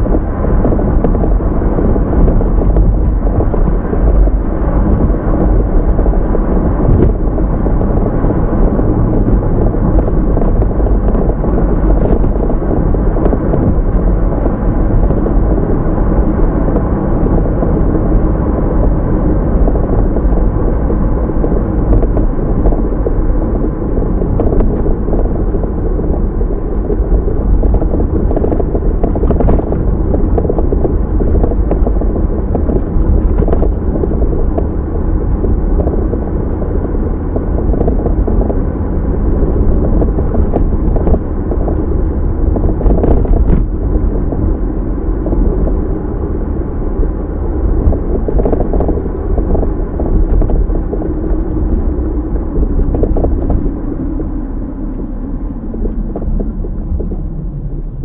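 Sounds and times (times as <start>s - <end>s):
low rumble of tyres and engine: 0.0s - 58.0s.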